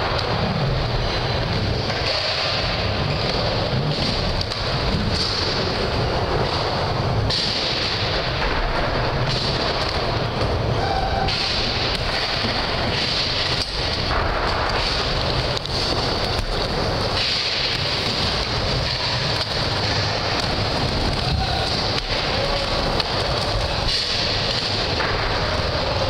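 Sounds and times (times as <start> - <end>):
indoor skatepark din: 0.0 - 26.0
skateboard wheels rolling on wood: 0.0 - 26.0.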